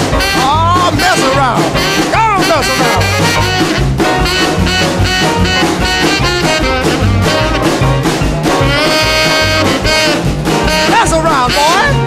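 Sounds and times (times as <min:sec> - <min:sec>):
boogie-woogie rhythm and blues with horns: 0:00.0 - 0:12.0
horn holding long note: 0:00.2 - 0:08.0, 0:08.6 - 0:11.0.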